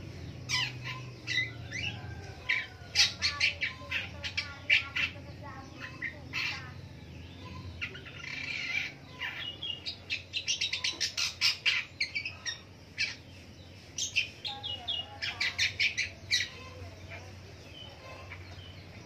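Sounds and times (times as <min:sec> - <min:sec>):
shrike singing scratchy chatter: 0:00.0 - 0:19.0.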